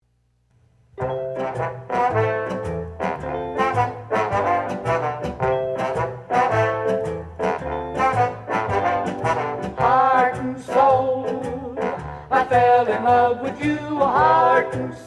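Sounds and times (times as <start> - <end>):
brass-led jazzy swing music: 1.0 - 15.0.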